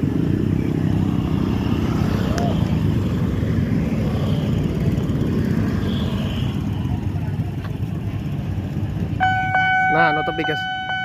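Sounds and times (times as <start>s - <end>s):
scooters and cars passing: 0.0s - 11.0s.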